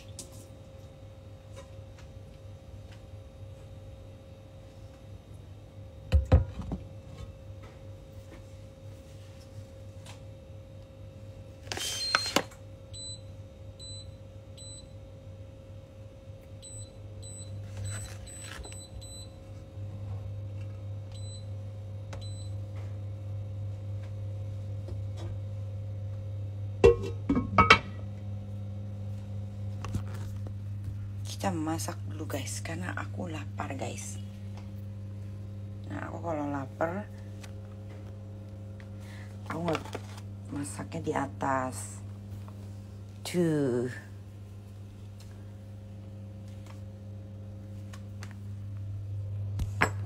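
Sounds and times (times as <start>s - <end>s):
steady electric hum: 0.0s - 50.0s.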